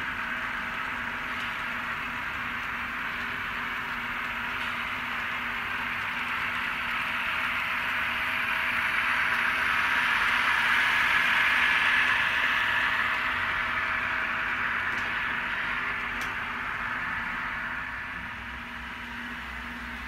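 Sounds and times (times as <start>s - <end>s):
diesel engine sound from small speaker: 0.0s - 20.0s
model train wheels on rails: 0.0s - 20.0s.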